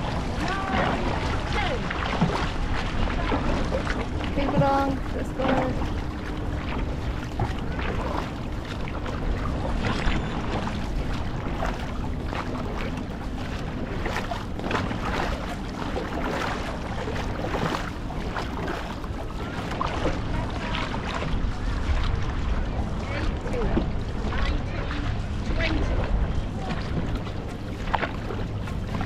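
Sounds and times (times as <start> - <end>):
paddles splashing in water: 0.0 - 29.0
wind rumble on microphone: 0.0 - 29.0.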